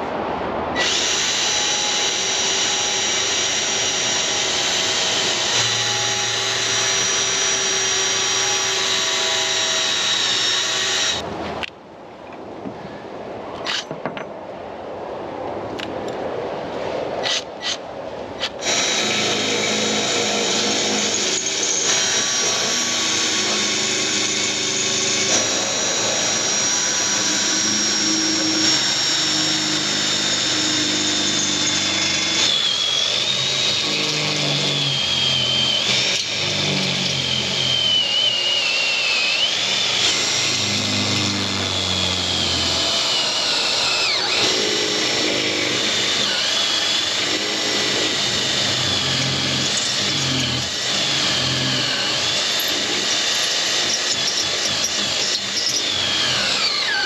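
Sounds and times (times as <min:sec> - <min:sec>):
power drill boring through metal: 0:00.8 - 0:11.2, 0:18.4 - 0:57.0.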